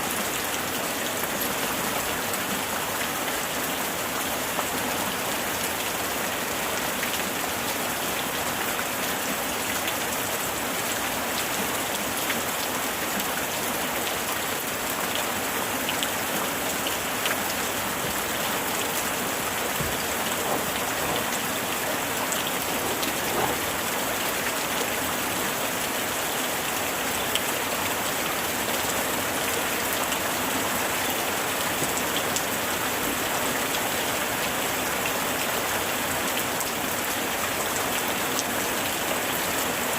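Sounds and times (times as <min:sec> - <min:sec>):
heavy rain: 0:00.0 - 0:39.9
raindrops striking close by: 0:00.1 - 0:39.9.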